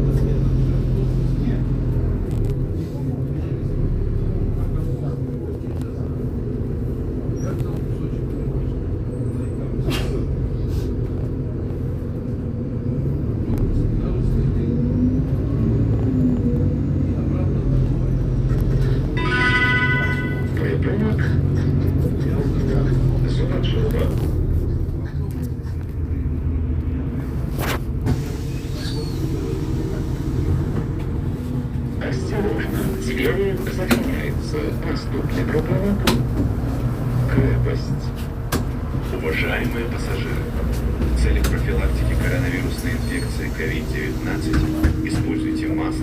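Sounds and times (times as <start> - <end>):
bus engine and road rumble: 0.0 - 46.0.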